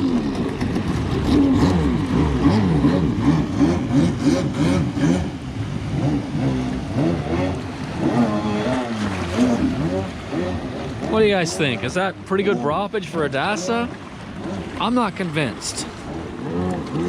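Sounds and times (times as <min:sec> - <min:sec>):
jet ski engine revving: 0:00.0 - 0:17.0.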